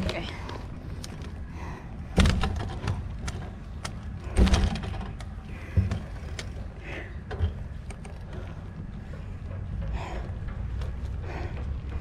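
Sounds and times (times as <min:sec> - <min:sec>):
bicycle clicking and rattling: 0:02.2 - 0:12.0.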